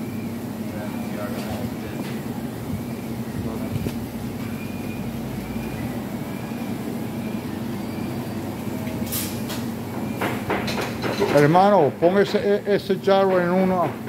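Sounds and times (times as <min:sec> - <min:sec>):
kitchen fans humming: 0:00.0 - 0:14.0.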